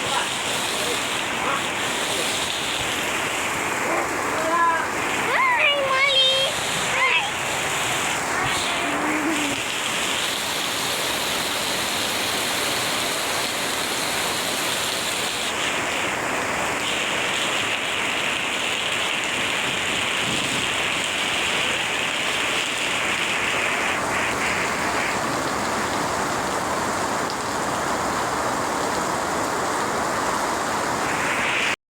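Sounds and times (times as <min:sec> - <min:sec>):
heavy rain falling: 0:00.0 - 0:31.8.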